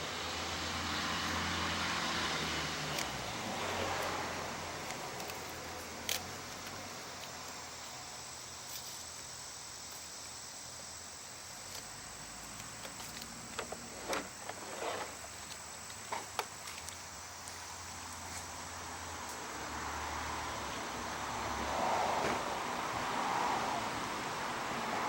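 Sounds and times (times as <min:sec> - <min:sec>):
high-pitched insect trill: 0:00.0 - 0:25.0.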